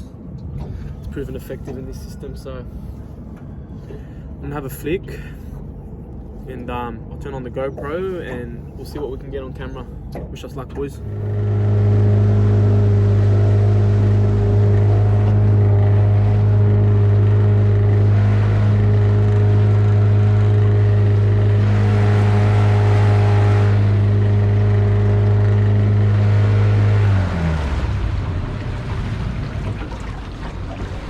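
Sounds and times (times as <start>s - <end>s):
outboard motor droning: 0.0s - 31.0s.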